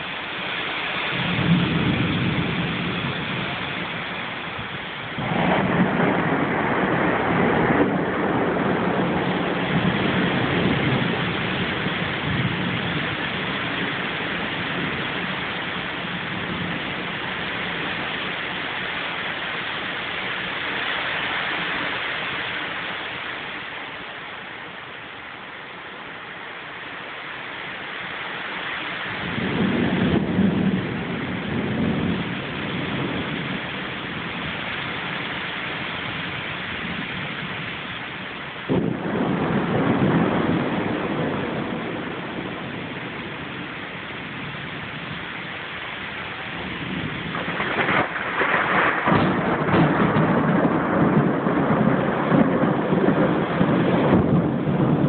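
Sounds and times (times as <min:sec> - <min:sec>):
thunder rumbling: 0:00.0 - 0:24.4, 0:28.1 - 0:55.0
rain hiss: 0:00.0 - 0:55.0.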